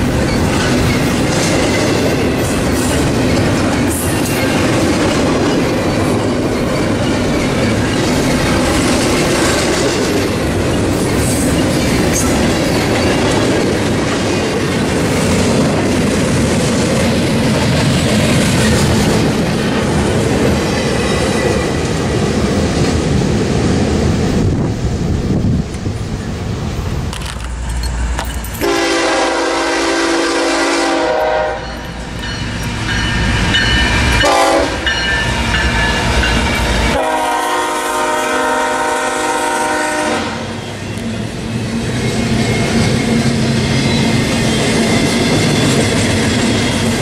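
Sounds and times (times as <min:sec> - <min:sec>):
freight train rumbling past: 0:00.0 - 0:47.0.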